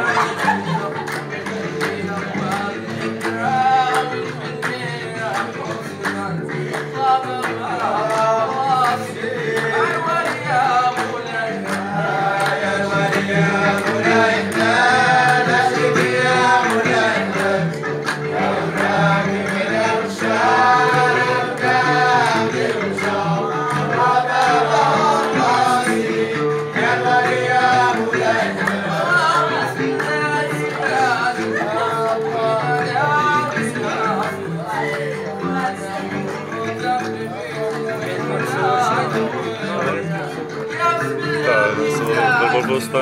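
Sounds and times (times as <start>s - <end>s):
men singing together: 0.0s - 43.0s.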